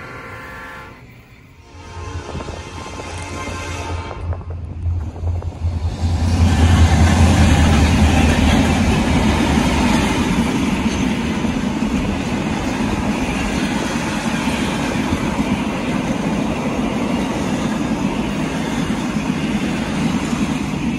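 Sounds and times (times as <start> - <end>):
diesel locomotive engine hum: 0.0 - 20.9
train wheels rumbling on rails: 0.0 - 20.9.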